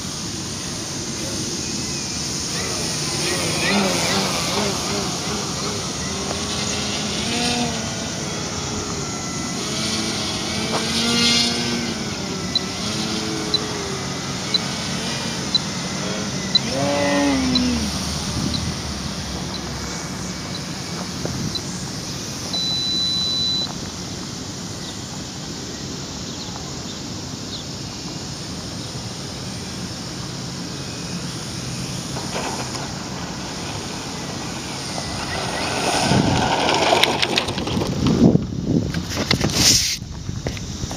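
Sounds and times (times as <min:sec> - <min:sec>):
rc plane motor buzzing: 0:00.0 - 0:40.9.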